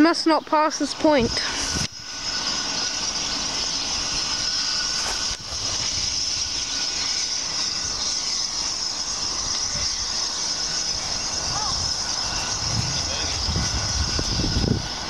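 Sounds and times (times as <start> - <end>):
steady high steam hiss: 0.0 - 15.0
steam locomotive running: 0.0 - 15.0.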